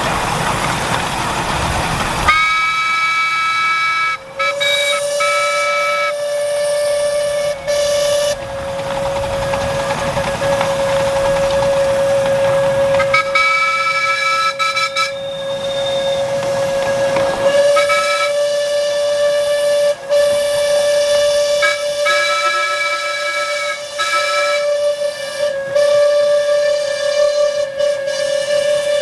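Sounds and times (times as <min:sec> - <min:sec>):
steam locomotive whistles blowing: 0:01.8 - 0:29.0.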